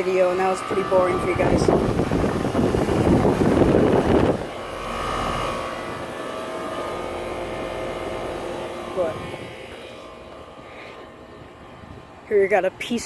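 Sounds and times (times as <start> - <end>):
air conditioner fan rushing: 0.0 - 13.0
steady hum with faint tones: 0.0 - 13.0.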